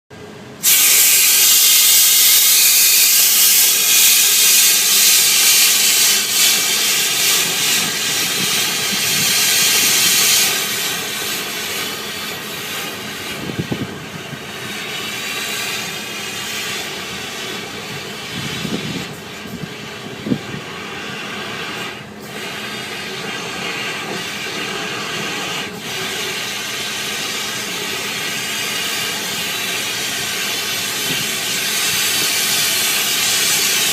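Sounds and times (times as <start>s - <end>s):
blower motor with air rush: 0.1s - 33.9s.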